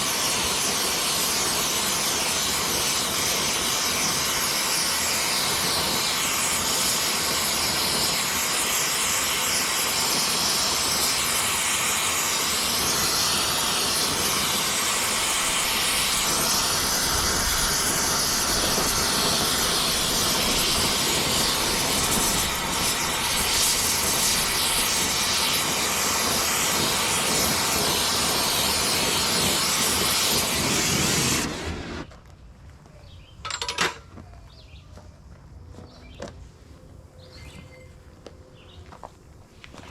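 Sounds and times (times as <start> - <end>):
gas torch hissing roar: 0.0 - 32.1.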